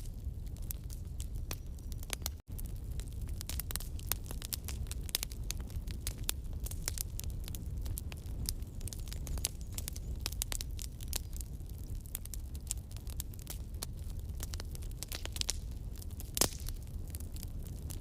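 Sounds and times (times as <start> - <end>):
campfire crackling and popping: 0.0 - 18.0
low rumble of flames: 0.0 - 18.0.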